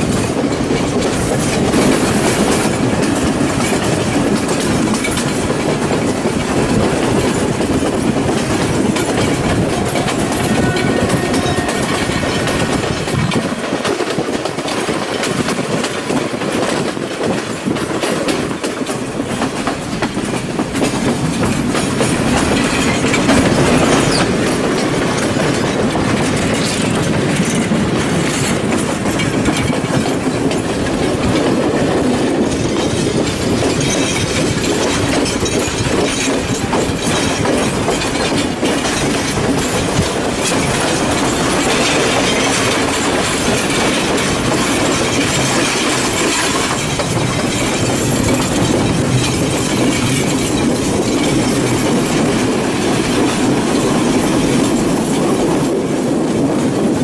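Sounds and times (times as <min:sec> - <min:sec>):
train rumbling: 0:00.0 - 0:57.0
wheels clicking over rail joints: 0:00.0 - 0:57.0.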